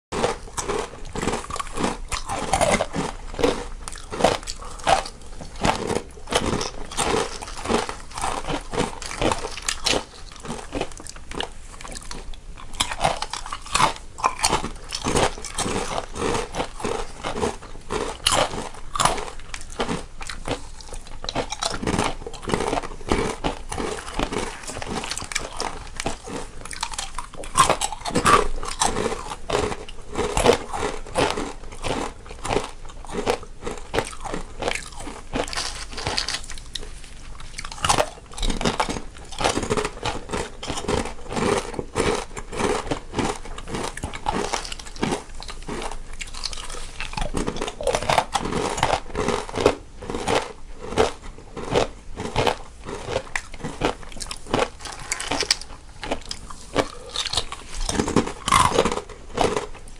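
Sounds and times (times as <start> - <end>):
people crunching snacks: 0.1 - 59.9.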